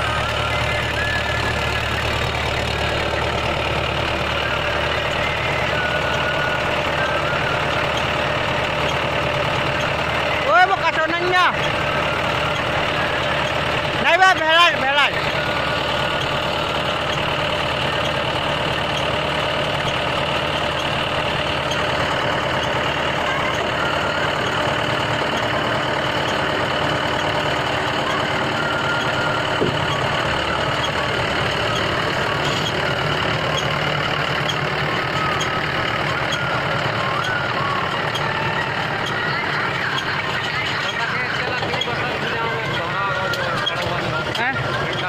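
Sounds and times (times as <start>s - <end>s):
faint machinery ticking: 0.0s - 45.0s
tractor engine running: 0.0s - 45.0s.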